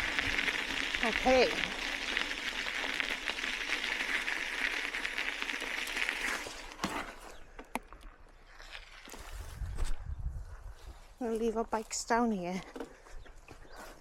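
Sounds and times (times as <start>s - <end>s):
bicycle tyres on rough road: 0.0s - 12.0s.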